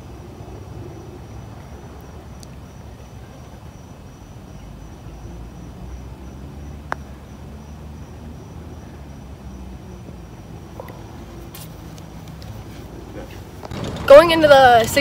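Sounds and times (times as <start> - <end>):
high insect trill: 0.0 - 12.9
low outdoor rumble: 0.0 - 15.0.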